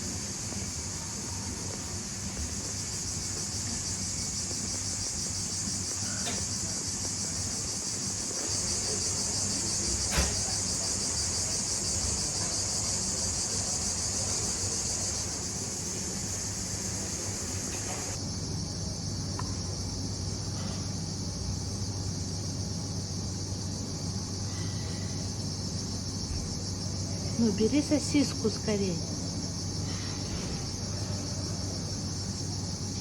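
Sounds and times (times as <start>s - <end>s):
insect chorus chirring: 0.0s - 33.0s.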